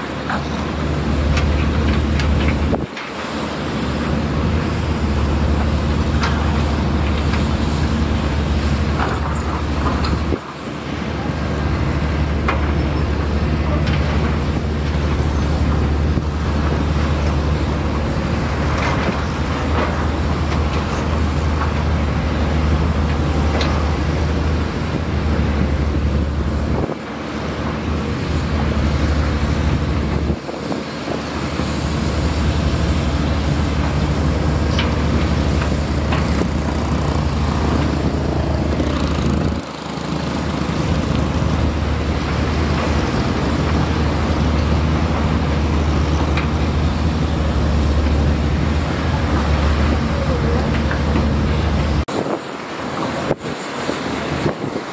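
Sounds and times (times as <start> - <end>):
diesel machinery engine droning: 0.0 - 54.9.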